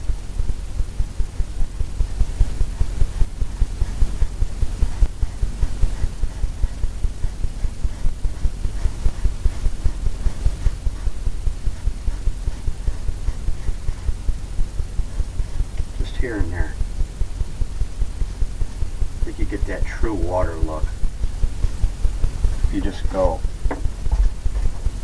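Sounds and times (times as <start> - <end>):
brush dabbing paint on canvas: 0.0 - 25.0.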